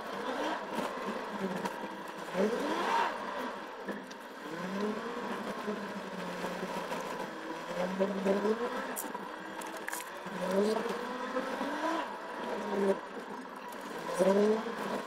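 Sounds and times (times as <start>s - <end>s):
car engine revving: 0.0s - 15.0s
road noise: 0.0s - 15.0s.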